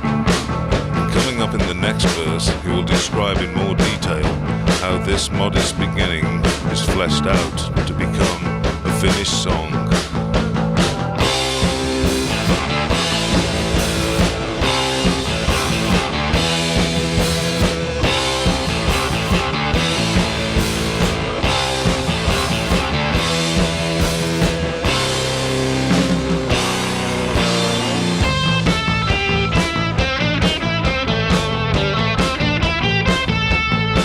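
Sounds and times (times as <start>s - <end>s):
bass guitar: 0.0s - 34.0s
electric guitar riff: 0.0s - 34.0s
steady drum beat: 0.0s - 34.0s.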